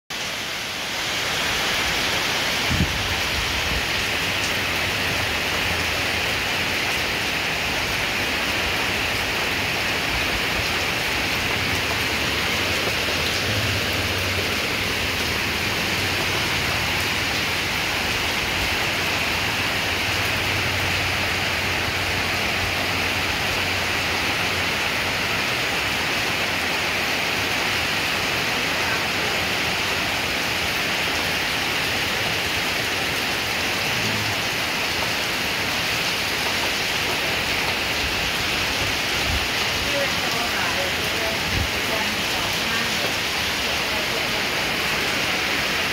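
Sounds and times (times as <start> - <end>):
heavy rain pouring: 0.1 - 45.9.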